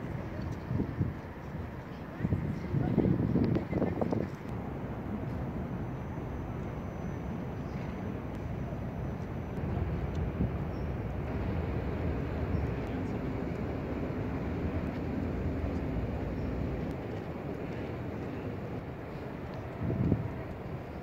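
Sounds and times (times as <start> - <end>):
distant vehicle rumble: 3.6 - 20.8.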